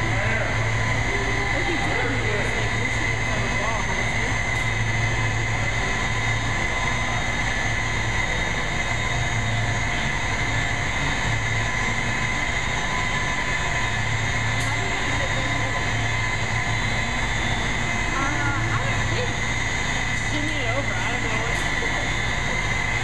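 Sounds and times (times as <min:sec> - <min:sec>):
machinery drone with high whine: 0:00.0 - 0:23.0.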